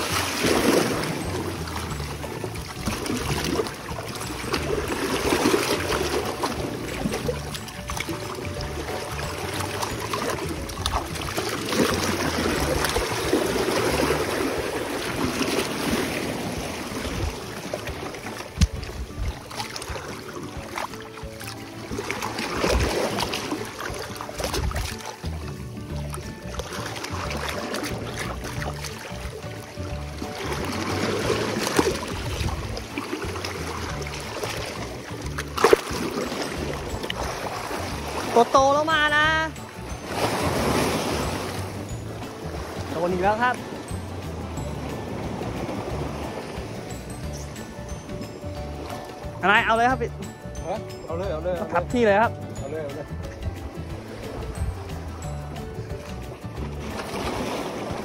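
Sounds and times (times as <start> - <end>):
small waves washing over rocks: 0.0 - 47.0, 56.1 - 58.0
sea water sloshing around wader: 0.0 - 58.0.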